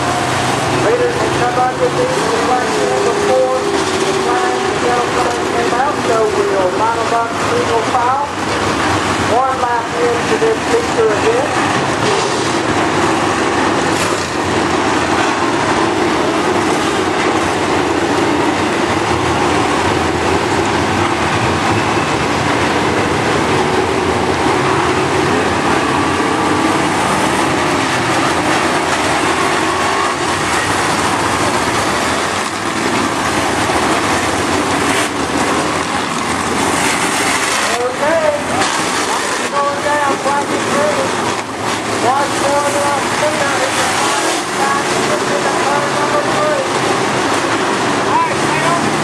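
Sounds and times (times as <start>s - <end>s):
cars passing close by: 0.0s - 49.0s
race car engines droning: 0.0s - 49.0s.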